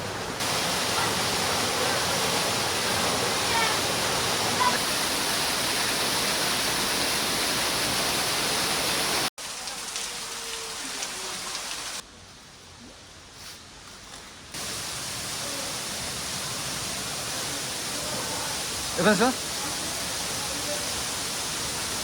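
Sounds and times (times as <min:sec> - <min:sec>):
waterfall: 0:00.0 - 0:12.1, 0:14.5 - 0:22.0.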